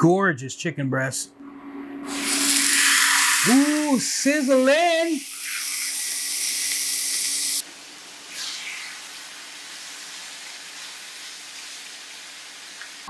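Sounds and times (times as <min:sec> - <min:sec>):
chicken sizzling in a pan: 0:02.1 - 0:13.0.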